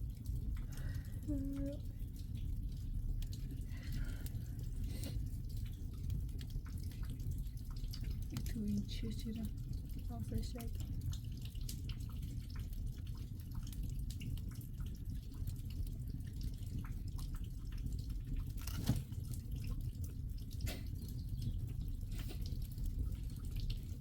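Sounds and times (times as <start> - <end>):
rain drips ticking: 0.0 - 24.0.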